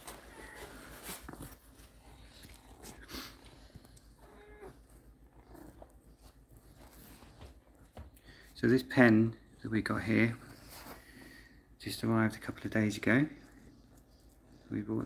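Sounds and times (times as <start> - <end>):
rustling of towels and bedding: 0.0 - 13.4.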